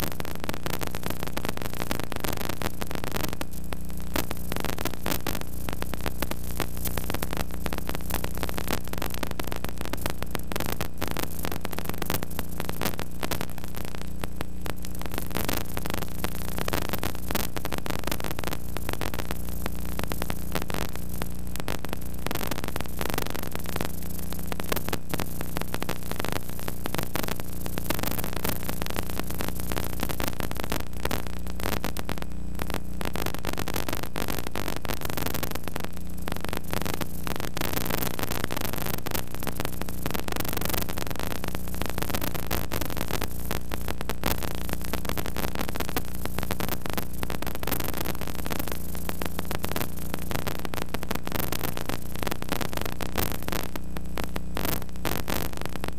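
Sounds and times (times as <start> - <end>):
crackling static hiss: 0.0 - 55.9
electrical hum: 0.0 - 55.9.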